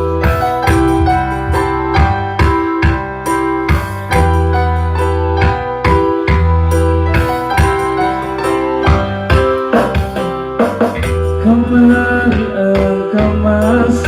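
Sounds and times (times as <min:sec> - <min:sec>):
piano chords: 0:00.0 - 0:14.0
steady bass: 0:00.0 - 0:14.0.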